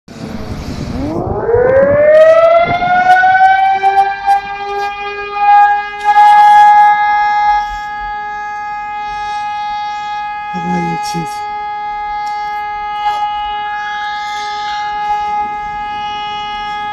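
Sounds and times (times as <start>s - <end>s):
alarm siren wailing: 0.1s - 16.9s.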